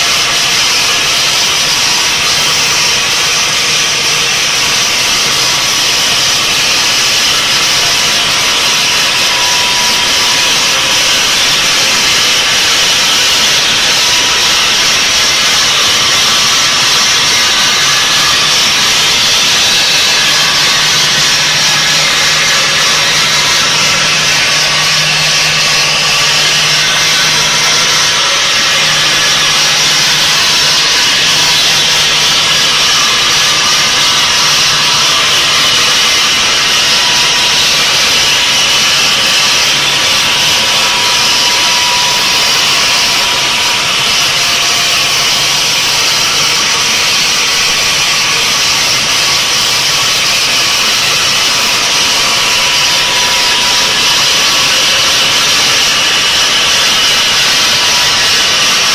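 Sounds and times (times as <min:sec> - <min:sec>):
saw blade grinding stone: 0:00.0 - 0:58.9.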